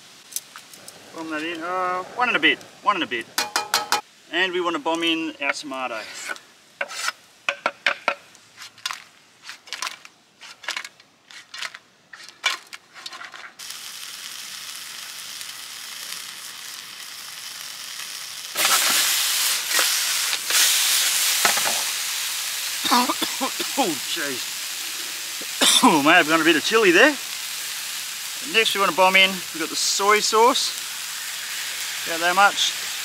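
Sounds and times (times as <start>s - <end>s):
wok sizzling: 0.0s - 33.0s.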